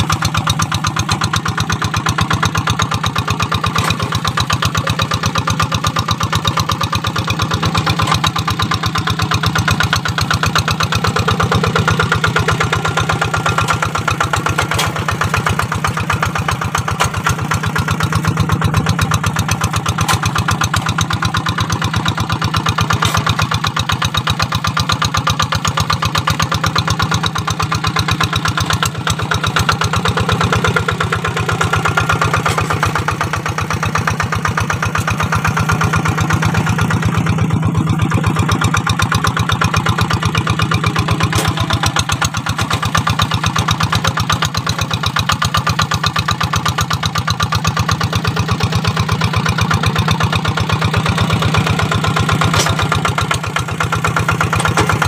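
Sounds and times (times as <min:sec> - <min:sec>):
diesel engine running: 0:00.0 - 0:55.0
plough through dry soil: 0:00.1 - 0:24.3, 0:28.1 - 0:45.1, 0:49.6 - 0:55.0.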